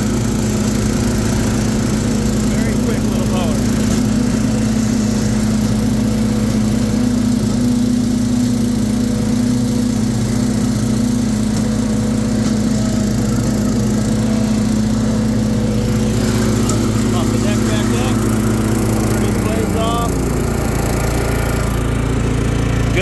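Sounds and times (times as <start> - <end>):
mower engine running: 0.0 - 23.0.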